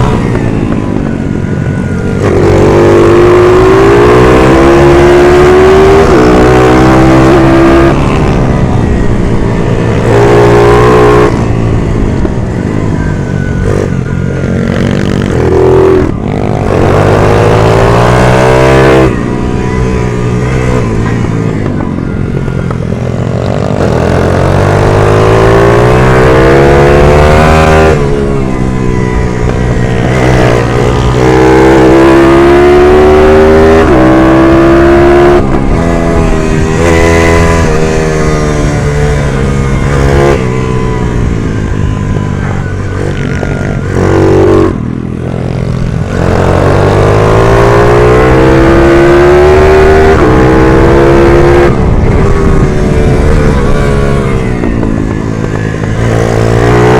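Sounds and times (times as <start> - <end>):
minibike engine revving: 0.0 - 56.9.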